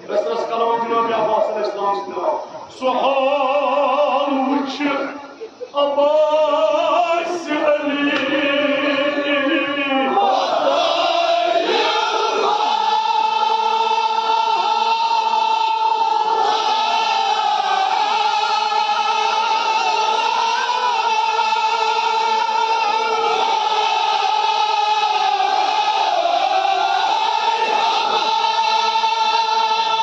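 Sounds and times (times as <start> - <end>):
men chanting in unison: 5.9 - 30.0.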